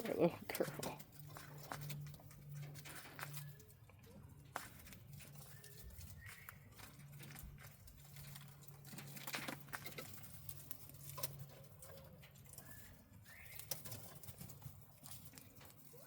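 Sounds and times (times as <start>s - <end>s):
quail pecking and scratching: 0.0s - 16.0s.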